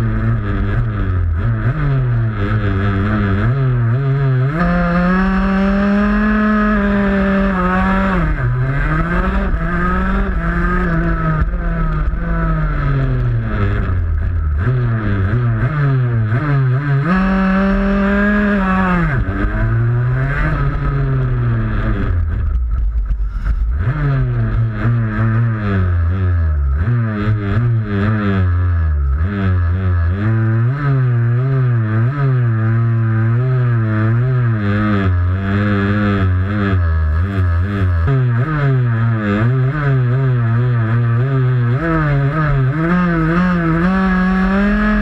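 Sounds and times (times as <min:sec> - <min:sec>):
kart two-stroke engine revving: 0:00.0 - 0:45.0.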